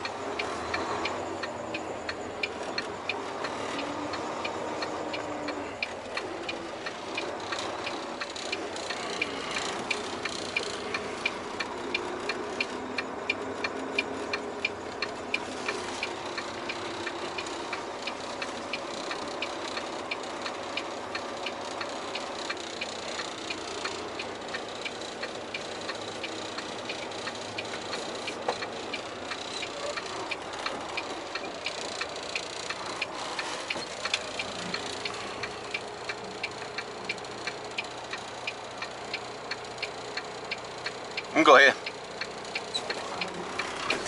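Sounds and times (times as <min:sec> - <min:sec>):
diesel truck engine: 0:00.0 - 0:44.0
turn signal ticking: 0:00.0 - 0:44.0.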